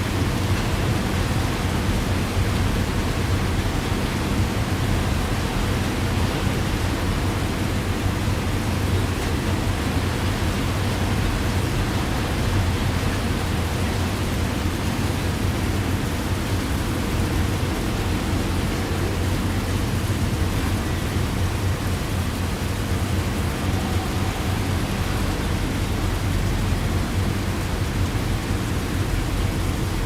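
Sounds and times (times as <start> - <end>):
deep rumble: 0.0 - 30.0
heavy rain hiss: 0.0 - 30.0.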